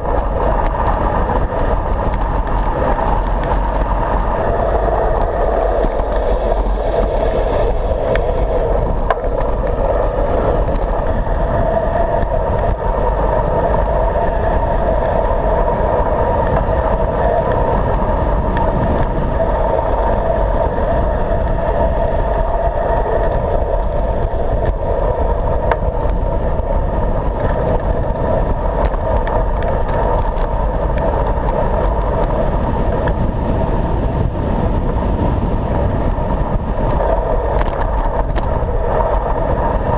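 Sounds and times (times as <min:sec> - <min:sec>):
constant hum: 0:00.0 - 0:39.9
wind noise on camera: 0:00.0 - 0:39.9.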